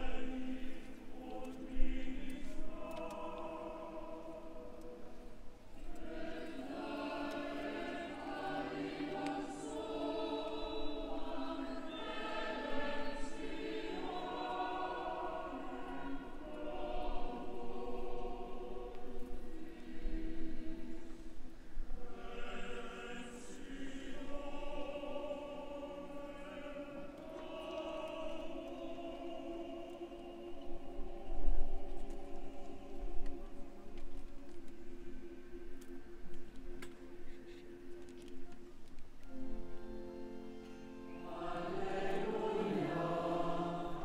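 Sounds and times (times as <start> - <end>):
choir singing sacred music: 0.0 - 44.0.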